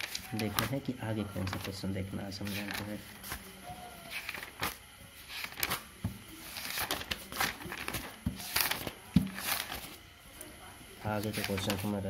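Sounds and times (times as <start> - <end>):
book pages turning: 0.0 - 10.0, 11.1 - 12.0.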